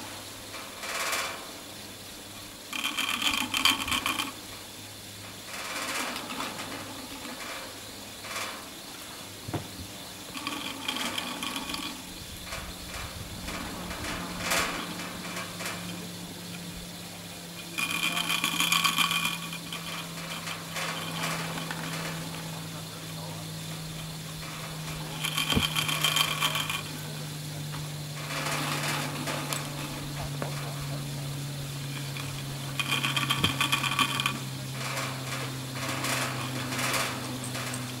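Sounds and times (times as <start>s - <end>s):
lift rope humming over sheaves: 0.0s - 38.0s
rope clamps rattling over rollers: 0.0s - 38.0s.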